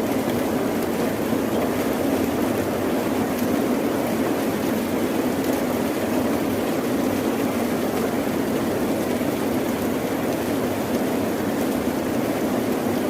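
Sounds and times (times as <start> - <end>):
rain: 0.0 - 13.0.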